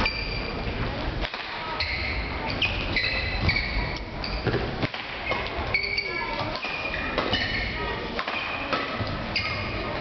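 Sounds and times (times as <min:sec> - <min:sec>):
murmur of voices: 0:00.0 - 0:10.0
shoes squeaking on court floor: 0:01.7 - 0:09.9.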